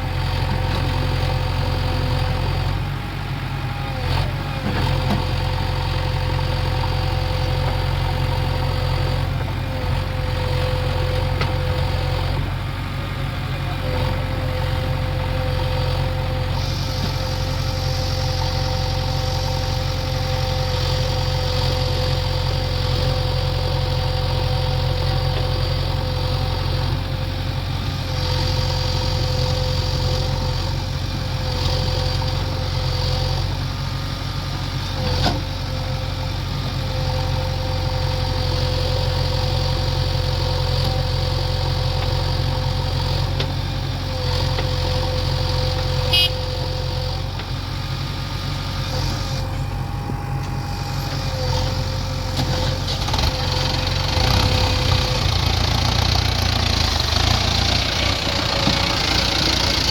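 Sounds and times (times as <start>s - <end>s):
diesel engine running with whine: 0.0s - 59.9s.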